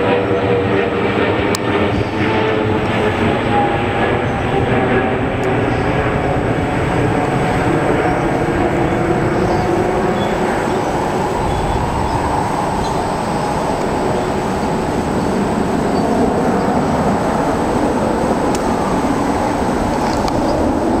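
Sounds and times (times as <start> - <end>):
jet airliner rumble overhead: 0.0 - 21.0.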